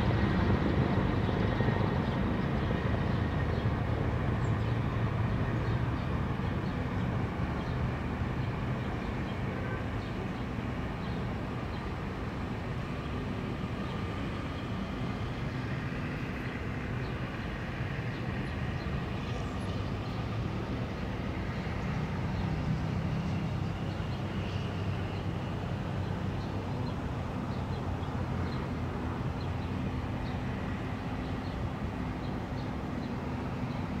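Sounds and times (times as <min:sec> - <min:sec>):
distant helicopter droning: 0:00.0 - 0:34.0.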